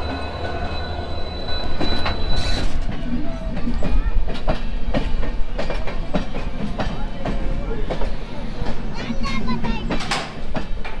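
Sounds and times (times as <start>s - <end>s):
wheels clacking on rail joints: 0.0s - 11.0s.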